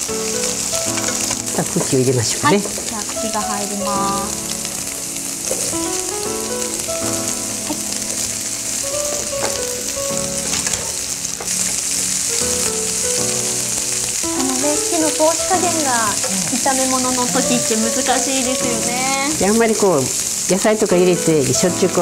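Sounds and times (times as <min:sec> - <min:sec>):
food sizzling in a frying pan: 0:00.0 - 0:22.0
soft background music: 0:00.0 - 0:22.0.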